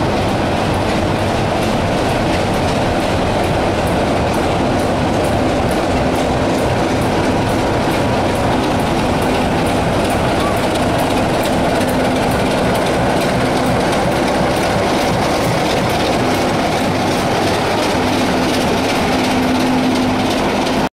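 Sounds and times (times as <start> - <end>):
diesel locomotive engine running: 0.0 - 20.9
wheels clicking over rail joints: 0.0 - 20.9.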